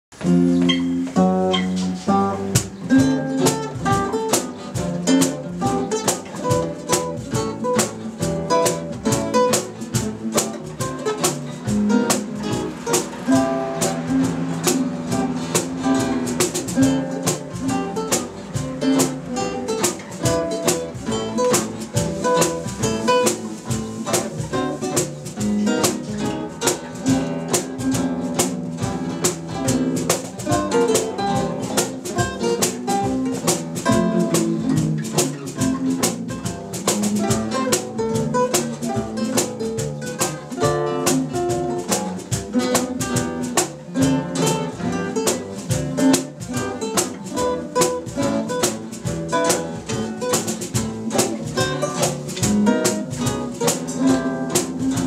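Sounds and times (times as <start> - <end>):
bass line: 0.1 - 55.0
plucked guitar notes: 0.1 - 55.0.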